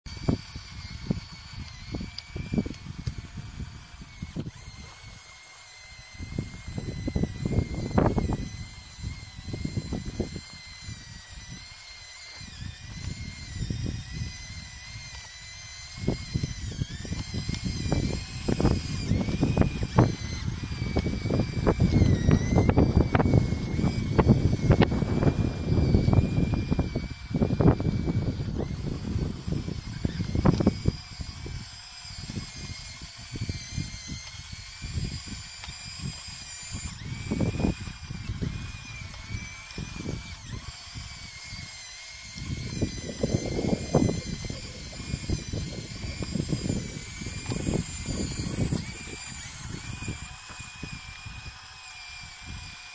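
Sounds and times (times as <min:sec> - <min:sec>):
electric motors whining: 0:00.1 - 0:52.9.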